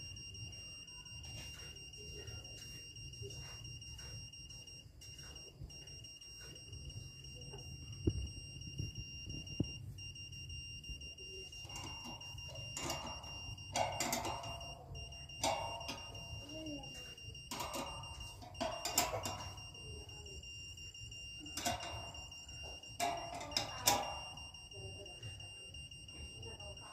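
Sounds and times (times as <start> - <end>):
steady high beep tone: 0.0 - 26.9.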